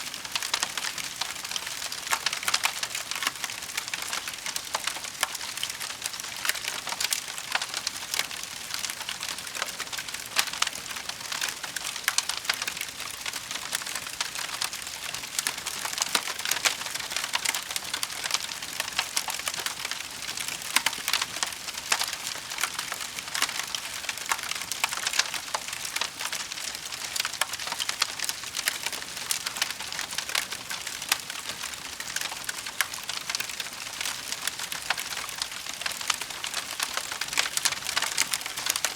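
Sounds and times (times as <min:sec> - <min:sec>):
burning wood crackling: 0:00.2 - 0:38.9.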